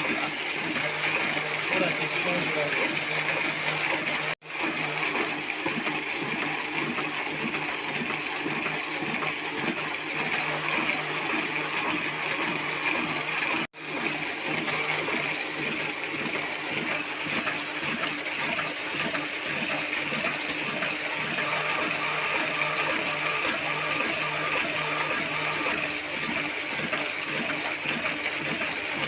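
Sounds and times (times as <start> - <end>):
printing machine running: 0.0 - 29.0.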